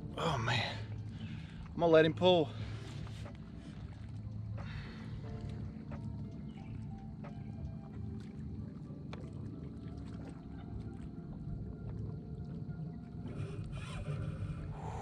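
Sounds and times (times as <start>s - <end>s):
water rumble: 0.0s - 15.0s.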